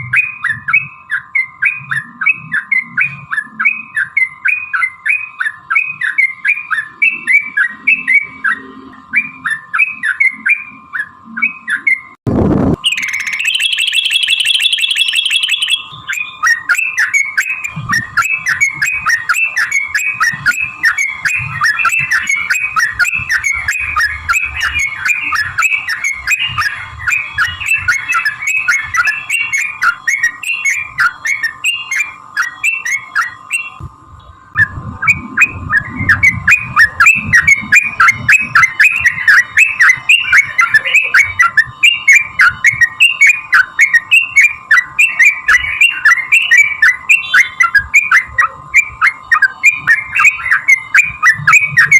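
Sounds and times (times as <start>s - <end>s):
bulbuls chattering song: 0.0s - 12.2s, 12.8s - 51.9s
dense buzzy bird trill: 0.0s - 51.9s.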